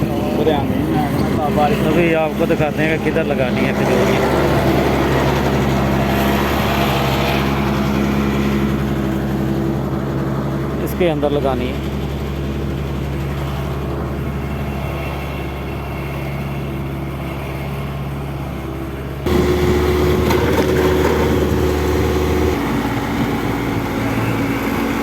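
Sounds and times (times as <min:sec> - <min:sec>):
skid-steer loader engine running: 0:00.0 - 0:25.0.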